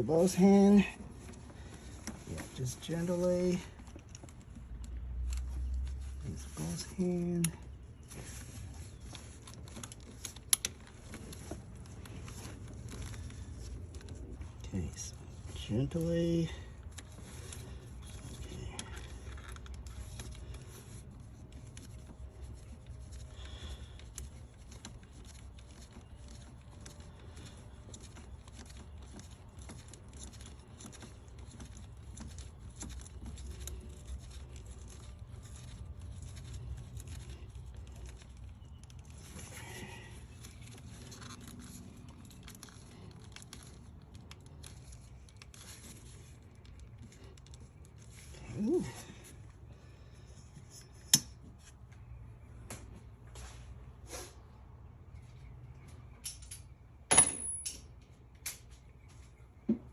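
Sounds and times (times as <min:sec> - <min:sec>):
low steady hum: 0:00.0 - 0:59.9
small clicks and scrapes: 0:01.1 - 0:52.8.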